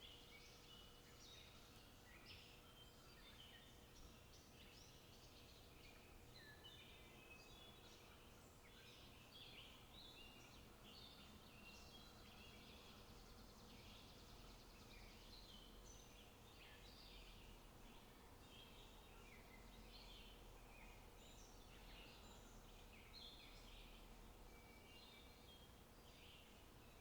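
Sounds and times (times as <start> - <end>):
low background noise: 0.0 - 27.0
small birds chirping: 0.0 - 27.0.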